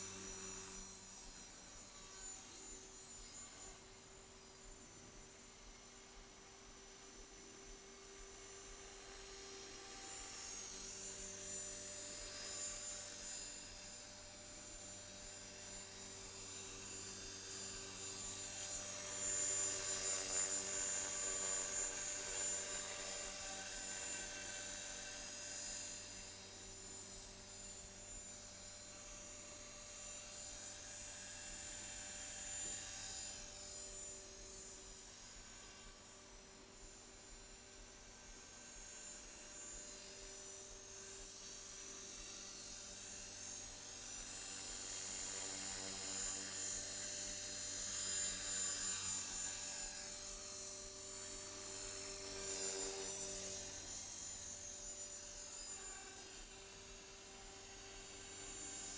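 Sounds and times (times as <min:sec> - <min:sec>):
rc helicopter motor whine: 0:00.0 - 0:58.9.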